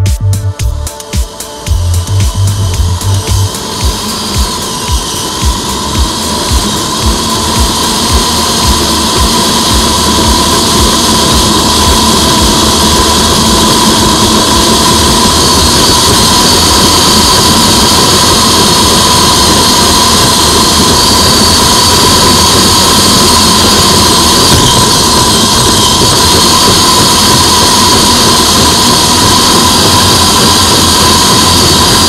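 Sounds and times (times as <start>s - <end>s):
electric motor and gears whining: 0.0s - 32.0s
track clatter: 0.1s - 32.0s.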